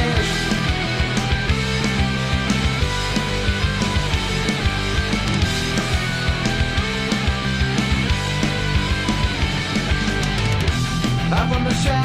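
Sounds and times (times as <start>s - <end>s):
distorted electric guitar: 0.0s - 12.0s
drums steady beat: 0.0s - 12.0s.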